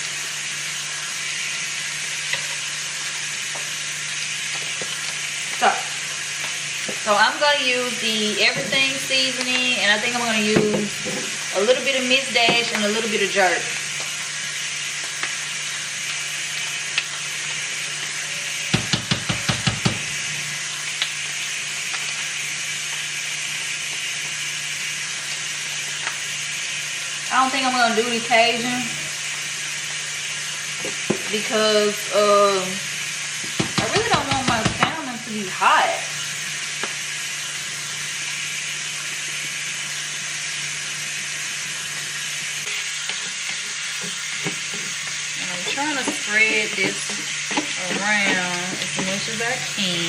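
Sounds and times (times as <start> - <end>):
fish sizzling on a griddle: 0.0 - 50.0.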